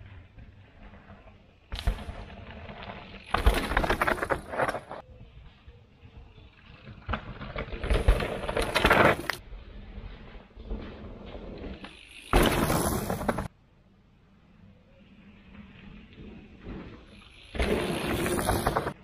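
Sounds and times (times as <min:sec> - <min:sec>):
bike tyres crunching over stones: 0:00.0 - 0:05.4, 0:06.0 - 0:13.5, 0:15.2 - 0:19.0.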